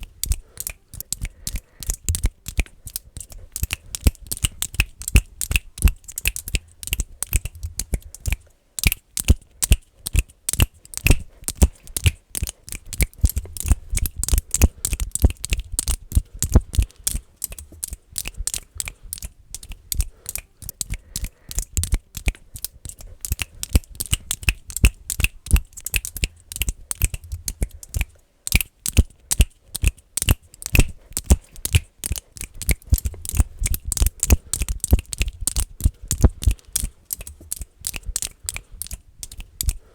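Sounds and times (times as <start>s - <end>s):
fast finger clicking: 0.0s - 39.9s.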